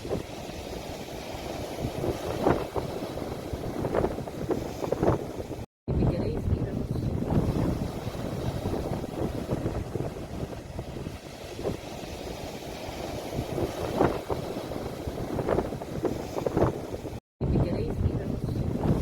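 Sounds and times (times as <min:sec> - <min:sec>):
sea waves washing on shore: 0:00.0 - 0:17.2, 0:17.8 - 0:19.0
wind rumbling on microphone: 0:00.0 - 0:19.0.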